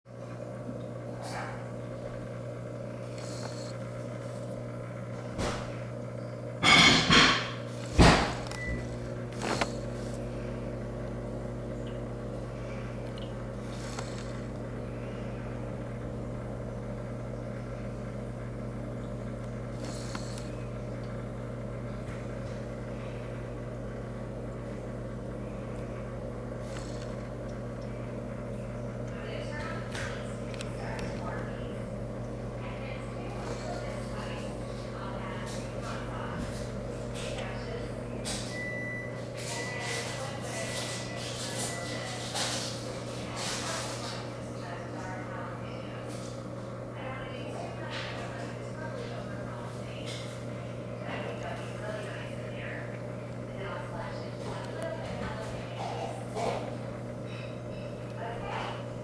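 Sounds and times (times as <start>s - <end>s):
aquarium equipment hum: 0.1s - 59.0s.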